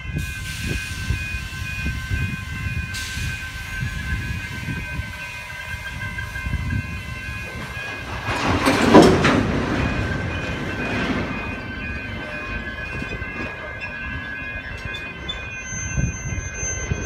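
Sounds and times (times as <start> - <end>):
steady high tones: 0.0 - 17.0
train wheels clattering on rails: 1.8 - 17.0.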